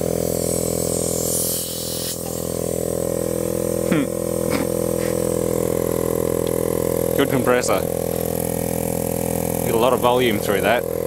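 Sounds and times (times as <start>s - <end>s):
compressor humming: 0.0s - 11.0s.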